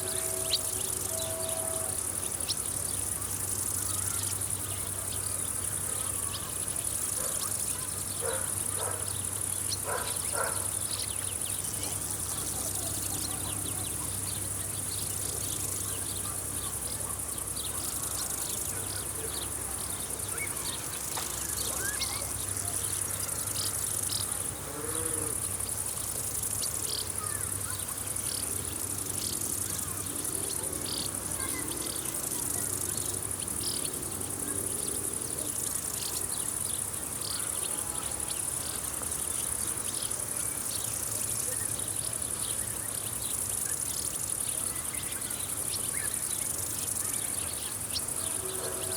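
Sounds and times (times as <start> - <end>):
crickets chirring: 0.0 - 48.9
low insect buzz: 0.0 - 48.9.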